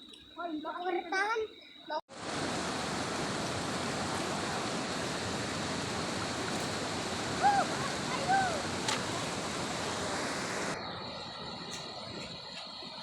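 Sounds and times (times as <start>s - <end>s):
floodwater rushing: 2.1s - 13.0s.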